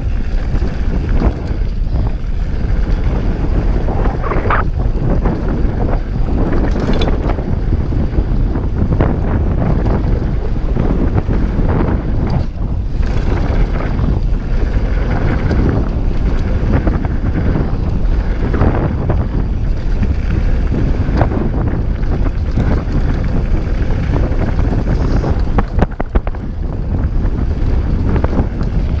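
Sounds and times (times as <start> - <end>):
bike rattling over bumps: 0.0 - 29.0
tyre noise on dirt: 0.0 - 29.0
wind on the microphone: 0.0 - 29.0.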